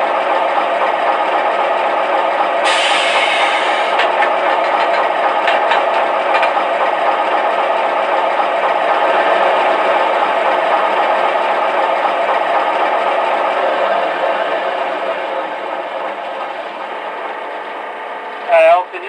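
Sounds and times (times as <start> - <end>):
model train diesel idle sound: 0.0 - 19.0.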